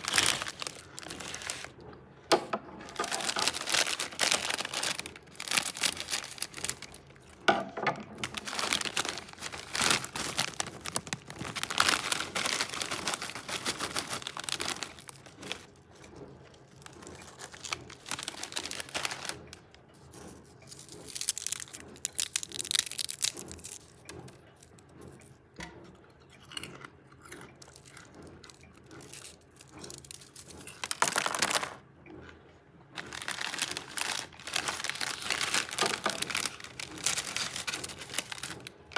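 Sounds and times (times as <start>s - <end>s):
plastic chip bag crinkling: 0.0s - 24.8s, 27.6s - 31.8s, 33.0s - 38.9s.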